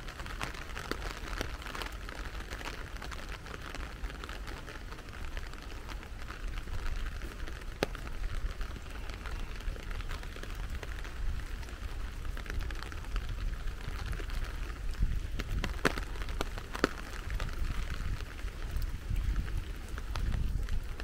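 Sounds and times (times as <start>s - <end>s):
rain falling steadily: 0.0s - 21.0s
raindrops ticking: 0.0s - 21.0s.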